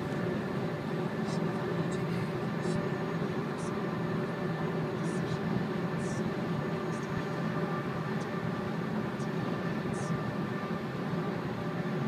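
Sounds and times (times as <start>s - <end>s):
faint steady tones: 0.0s - 12.0s
road and wind noise in car: 0.0s - 12.0s.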